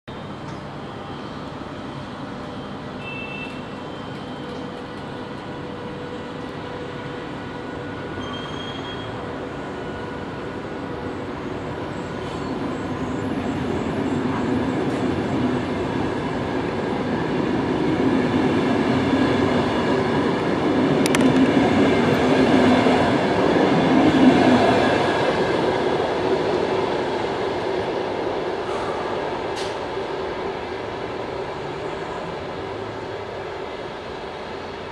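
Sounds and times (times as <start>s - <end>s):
train coaches rumbling past: 0.1s - 34.9s.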